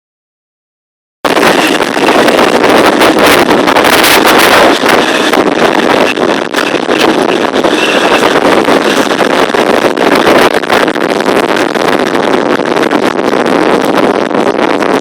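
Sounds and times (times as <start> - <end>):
strong wind on microphone: 1.2 - 15.0.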